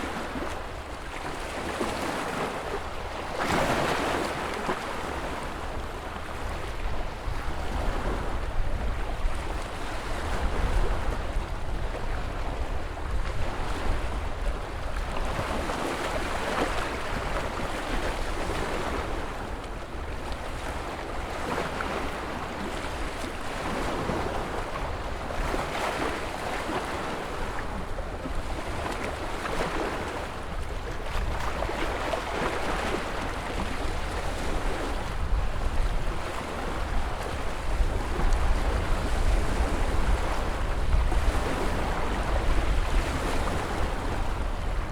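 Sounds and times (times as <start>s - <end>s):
ocean waves breaking on shore: 0.0s - 44.9s.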